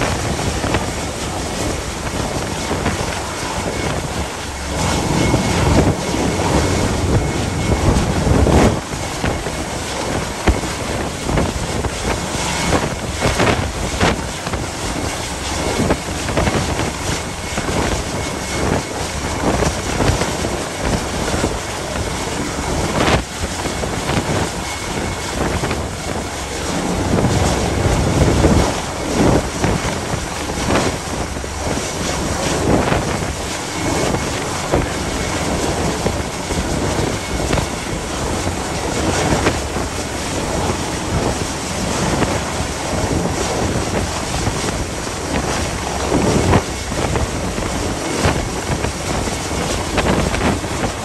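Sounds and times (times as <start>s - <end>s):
sea rushing: 0.0s - 51.0s
wind buffeting microphone: 0.0s - 51.0s.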